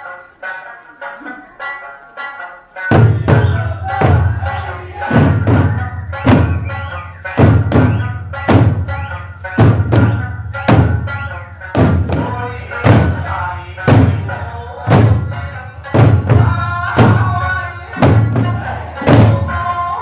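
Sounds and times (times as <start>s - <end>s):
folk music melody: 0.0s - 20.0s
barrel drums booming: 2.9s - 19.8s.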